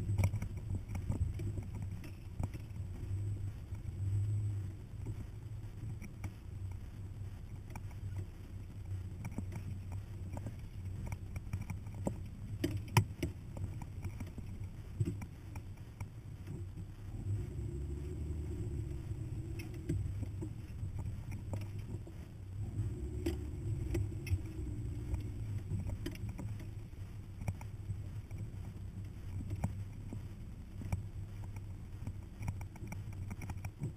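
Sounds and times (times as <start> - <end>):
truck engine at low revs: 0.0 - 33.9.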